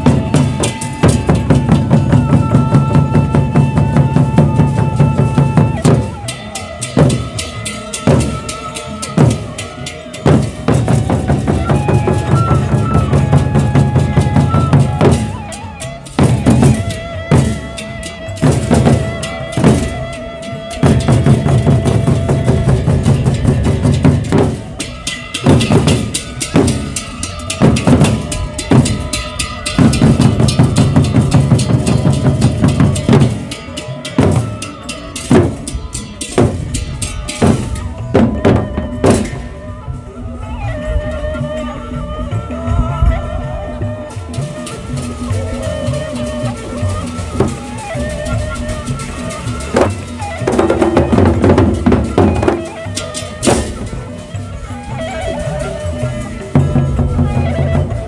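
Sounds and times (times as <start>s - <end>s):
barrel drums beaten fast: 0.0s - 39.4s, 44.3s - 58.0s
cymbals: 0.0s - 58.0s.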